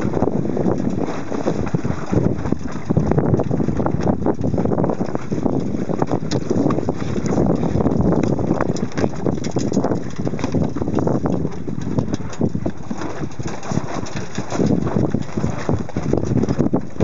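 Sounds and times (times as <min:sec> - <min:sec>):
water slapping against hull: 0:00.0 - 0:17.0
wind buffeting microphone: 0:00.0 - 0:17.0.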